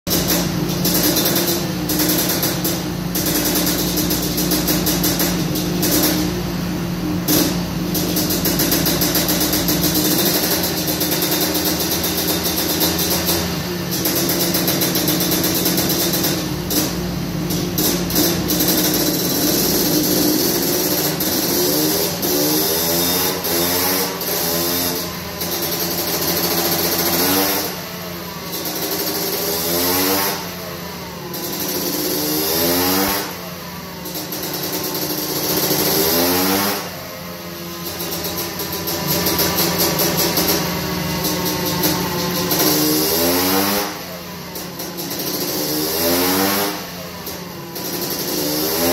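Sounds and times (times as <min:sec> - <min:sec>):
engine revving: 0:00.1 - 0:48.9
two-stroke engine running: 0:00.1 - 0:48.9.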